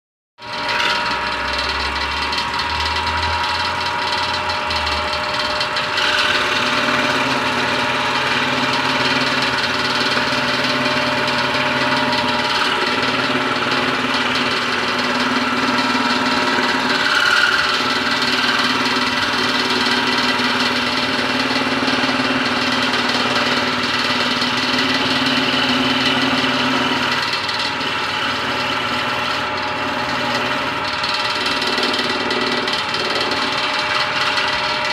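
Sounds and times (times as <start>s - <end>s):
scroll saw motor running: 0.4s - 34.9s.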